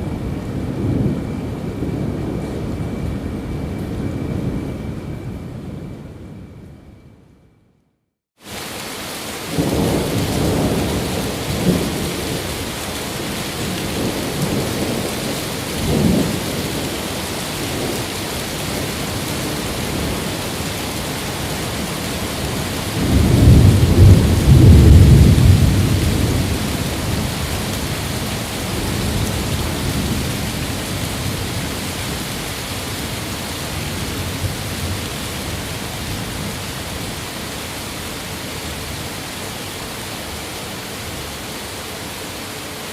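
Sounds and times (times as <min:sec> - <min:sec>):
steady rain: 0:00.0 - 0:06.7, 0:08.4 - 0:42.9
rolling thunder: 0:00.0 - 0:07.2, 0:09.3 - 0:37.6.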